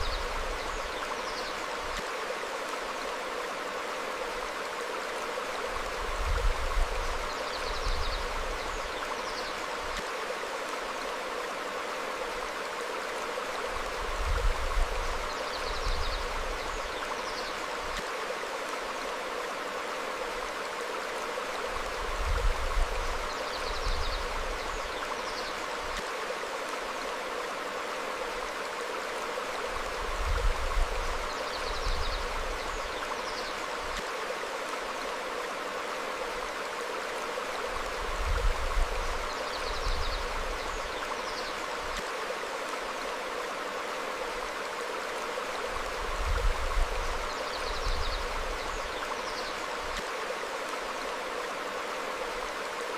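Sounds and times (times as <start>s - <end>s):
stream flowing over rocks: 0.0s - 52.9s.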